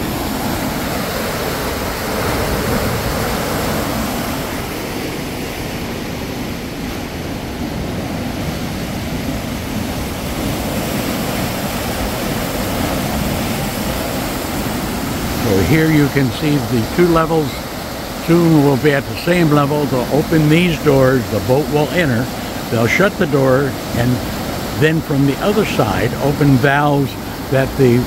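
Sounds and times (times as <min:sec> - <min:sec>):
water rushing through lock: 0:00.0 - 0:28.0.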